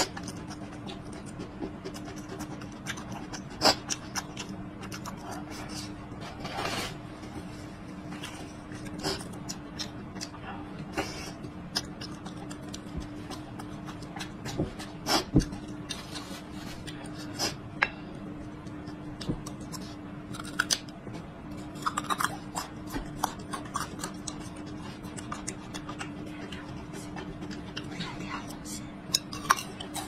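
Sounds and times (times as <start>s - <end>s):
person chewing and crunching: 0.0s - 6.0s, 8.0s - 17.6s, 18.4s - 30.0s
faint steady hum: 0.0s - 30.0s.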